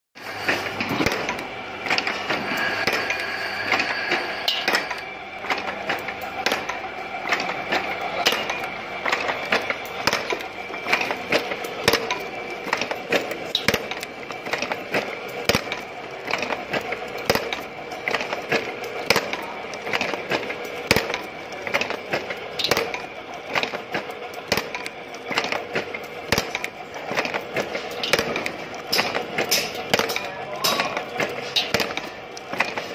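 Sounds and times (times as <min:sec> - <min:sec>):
machine hum: 0:00.2 - 0:32.9
machine clattering metal clicks: 0:00.4 - 0:32.9.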